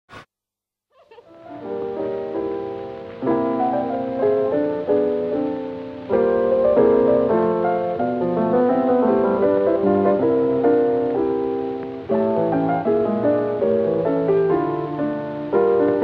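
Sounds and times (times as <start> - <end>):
piano music: 1.2 - 16.0.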